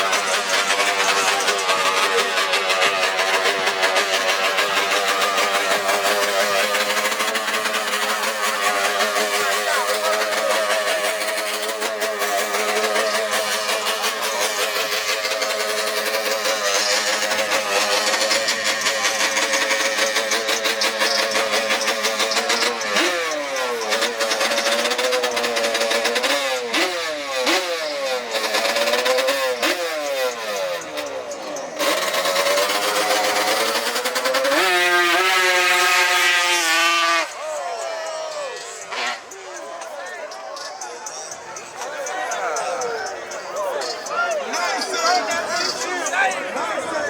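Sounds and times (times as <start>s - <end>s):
small vehicle engines running: 0.0s - 47.0s.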